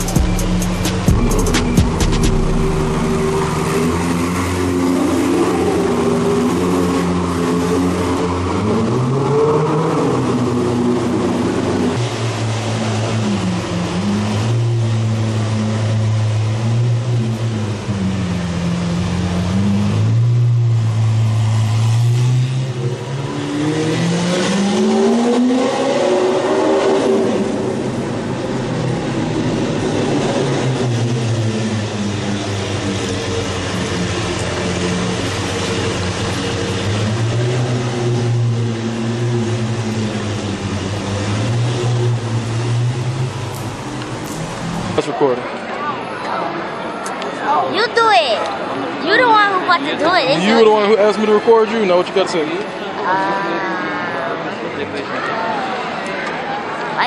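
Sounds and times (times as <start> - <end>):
sports car engine revving: 0.0 - 45.7.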